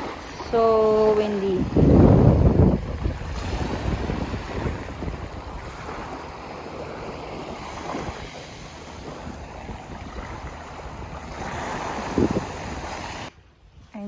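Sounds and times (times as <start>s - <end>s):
surf washing on shore: 0.0s - 13.3s
wind buffeting microphone: 0.0s - 14.0s.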